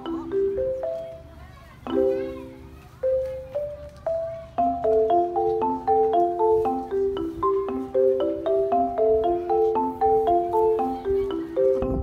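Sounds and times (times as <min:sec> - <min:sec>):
mallet percussion melody: 0:00.0 - 0:12.0.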